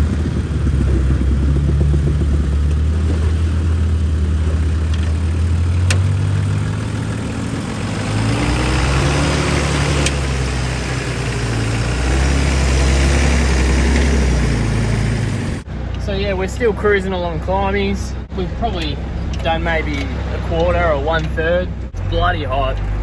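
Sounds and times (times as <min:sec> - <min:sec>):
engine running at low revs: 0:00.0 - 0:23.0
tyre and road noise: 0:00.0 - 0:23.0.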